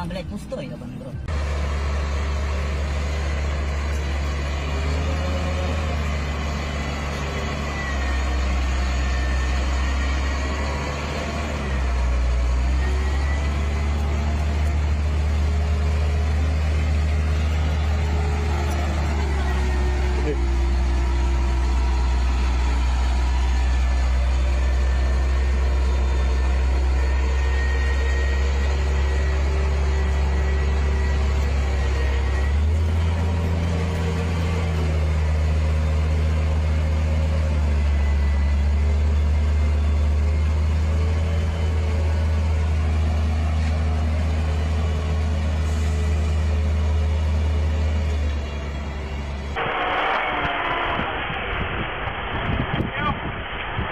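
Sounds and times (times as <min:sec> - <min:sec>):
diesel truck engine droning: 0:00.0 - 0:53.9.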